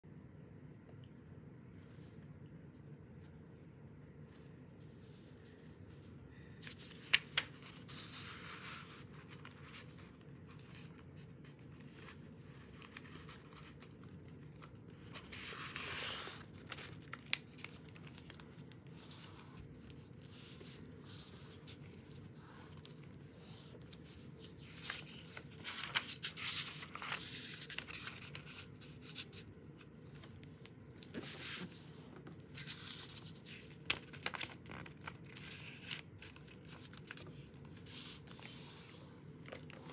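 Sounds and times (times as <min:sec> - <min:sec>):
paper rustling and creasing: 0:04.3 - 0:39.9.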